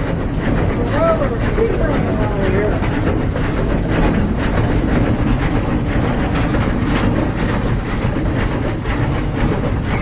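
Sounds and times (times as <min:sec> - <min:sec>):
clattering running gear and rails: 0:00.0 - 0:10.0
steam locomotive running: 0:00.0 - 0:10.0.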